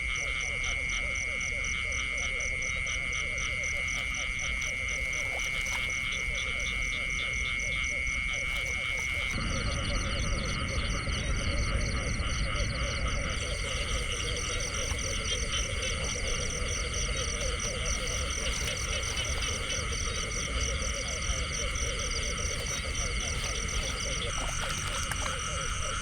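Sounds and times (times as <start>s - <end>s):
frogs calling: 0.0s - 26.0s.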